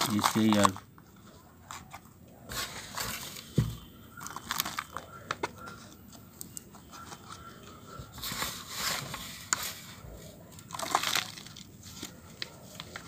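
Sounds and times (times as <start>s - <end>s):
soil crunching against plastic: 0.0s - 0.9s, 1.7s - 5.8s, 6.9s - 13.0s.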